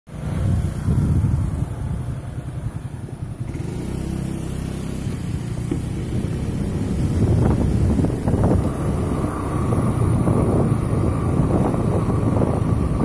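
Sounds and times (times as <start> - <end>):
motorcycle engine rumbling: 0.1 - 13.0.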